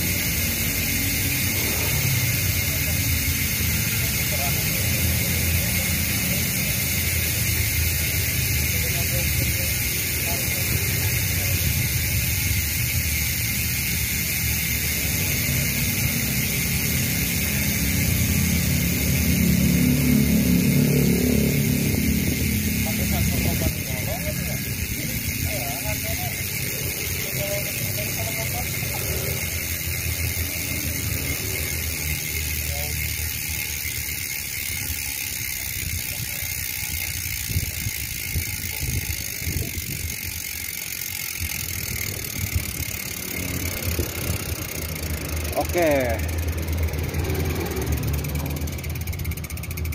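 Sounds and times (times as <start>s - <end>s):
freehub clicking buzz: 0.0s - 49.9s.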